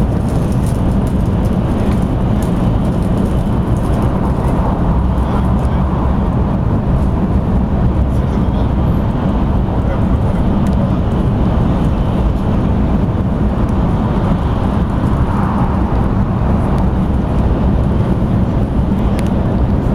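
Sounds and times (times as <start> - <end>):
train cabin rumble and hiss: 0.0 - 19.9.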